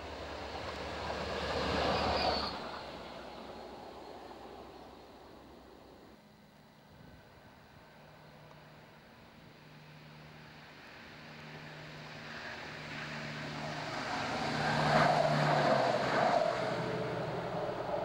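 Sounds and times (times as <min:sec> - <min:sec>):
train engine drone: 0:00.0 - 0:18.0
wheel and rail noise: 0:00.0 - 0:18.0.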